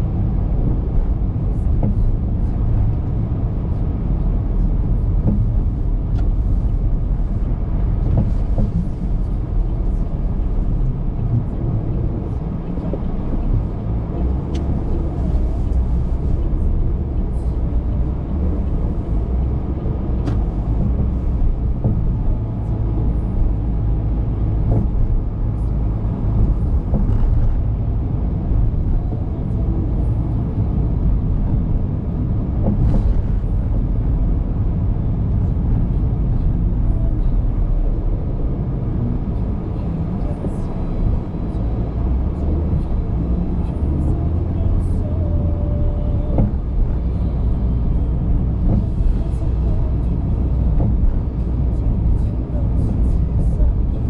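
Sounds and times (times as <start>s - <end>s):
tyres and engine rumbling: 0.0s - 54.0s.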